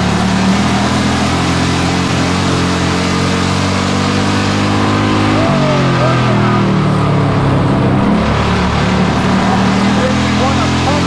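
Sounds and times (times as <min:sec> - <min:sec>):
race car engine running hard: 0:00.0 - 0:11.0.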